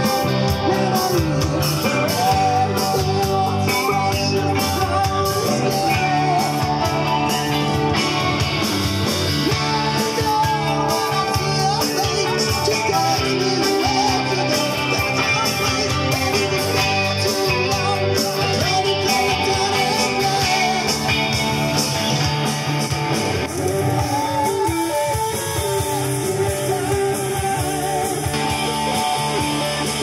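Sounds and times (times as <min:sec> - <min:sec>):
amplified electric guitar: 0:00.0 - 0:30.0
drums with steady beat: 0:00.0 - 0:30.0.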